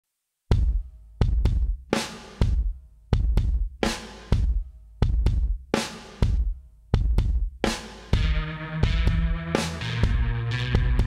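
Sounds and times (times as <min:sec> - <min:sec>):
kick and snare drum beat: 0:00.5 - 0:11.0.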